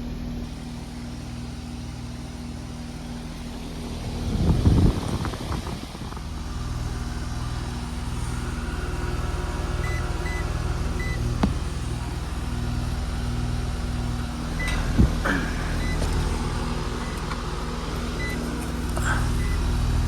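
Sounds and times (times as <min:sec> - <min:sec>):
air conditioner unit humming: 0:00.0 - 0:20.0.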